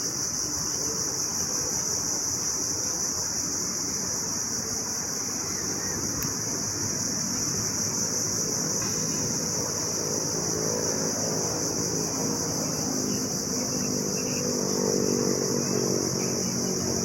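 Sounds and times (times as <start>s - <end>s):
distant engine hum: 0.0s - 17.0s
insect chorus drone: 0.0s - 17.0s.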